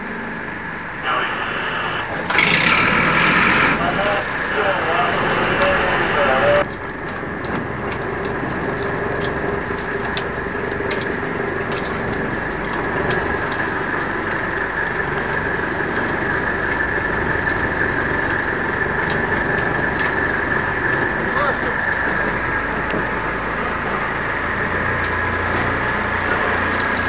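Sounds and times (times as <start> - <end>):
boat engine drone: 0.0 - 27.0
high whine: 0.0 - 27.0.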